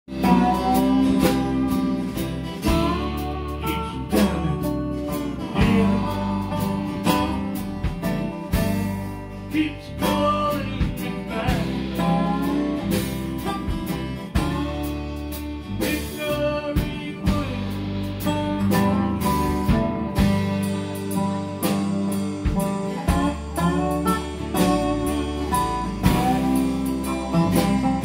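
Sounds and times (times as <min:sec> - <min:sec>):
acoustic guitars strummed and picked: 0:00.1 - 0:28.0
lap steel guitar sliding notes: 0:00.1 - 0:28.0.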